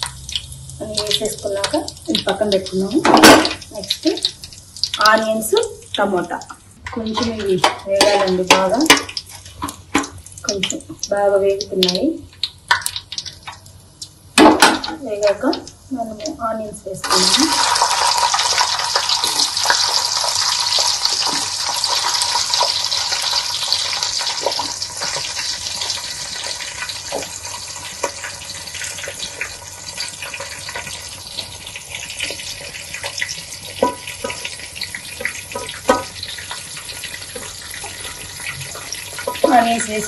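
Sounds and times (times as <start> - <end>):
onions sizzling in hot oil: 0.0 - 40.0.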